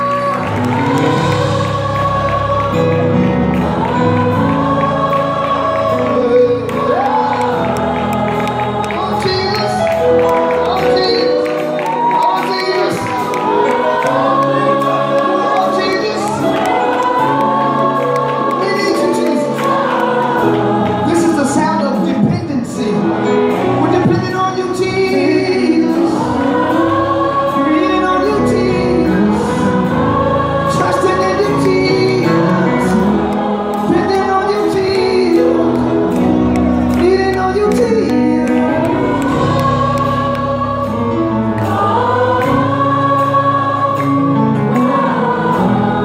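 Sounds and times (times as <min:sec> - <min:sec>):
gospel choir singing: 0:00.0 - 0:46.0.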